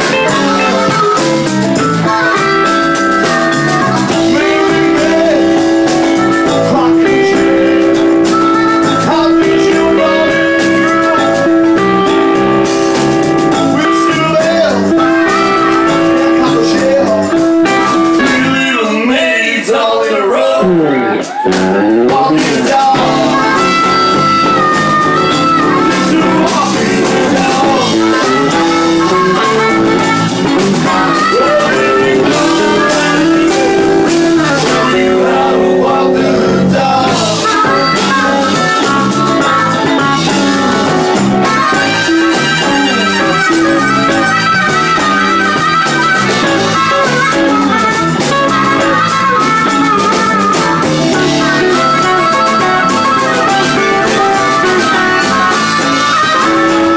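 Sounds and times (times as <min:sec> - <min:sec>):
harmonica playing lead: 0:00.0 - 0:19.0, 0:20.8 - 0:56.9
blues-rock band playing: 0:00.0 - 0:56.9.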